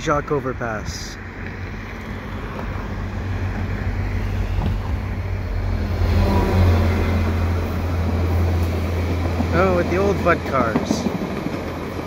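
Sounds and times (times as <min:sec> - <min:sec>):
locomotive diesel engine drone: 0:00.0 - 0:12.0.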